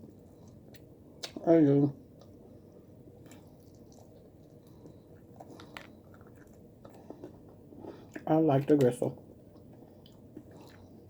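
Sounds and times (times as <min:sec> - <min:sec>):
person chewing: 0:00.0 - 0:01.4, 0:02.1 - 0:08.3, 0:09.2 - 0:11.0.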